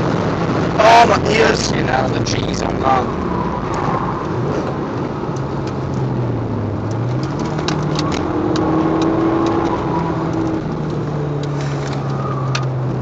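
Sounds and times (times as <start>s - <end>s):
car engine running at speed: 0.0s - 13.0s
tyre and wind noise: 0.0s - 13.0s.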